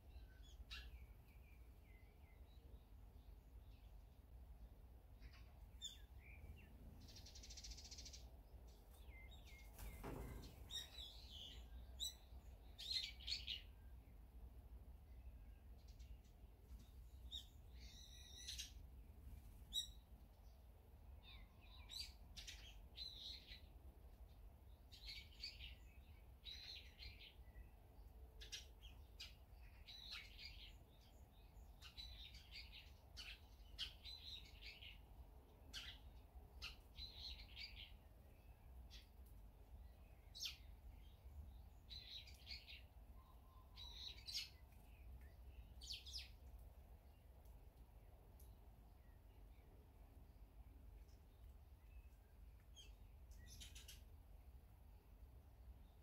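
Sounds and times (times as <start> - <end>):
songbirds chirping faintly: 0.0 - 56.0.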